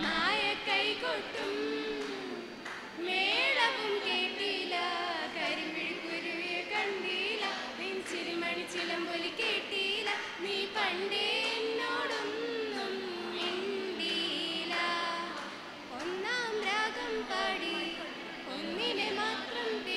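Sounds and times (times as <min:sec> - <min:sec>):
group of voices singing: 0:00.0 - 0:19.9.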